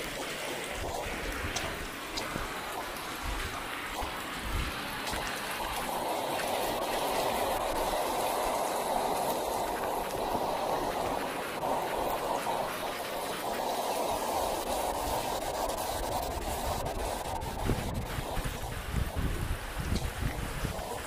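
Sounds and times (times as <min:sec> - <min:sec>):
rain falling: 0:00.0 - 0:21.0
runoff water flowing: 0:00.0 - 0:21.0.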